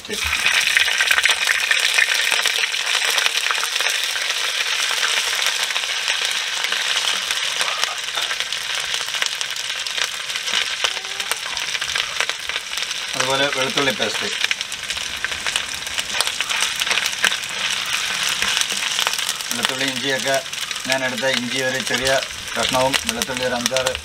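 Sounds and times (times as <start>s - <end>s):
paste sizzling in hot oil: 0.0s - 24.0s.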